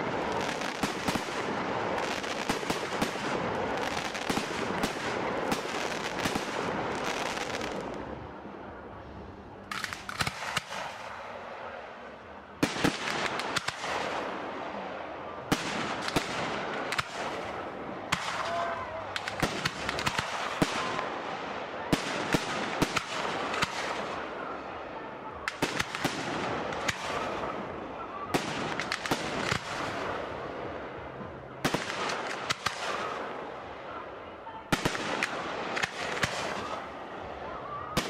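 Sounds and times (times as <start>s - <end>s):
crackling hiss of burning stars: 0.0s - 38.0s.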